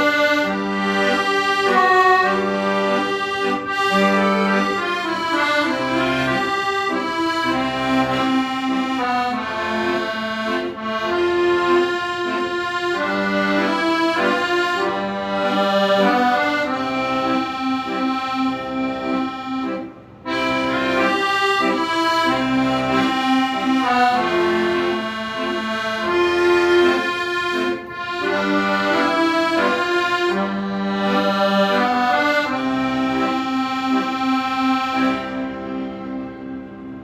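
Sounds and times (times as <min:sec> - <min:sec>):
accordion playing a melody: 0:00.0 - 0:37.0.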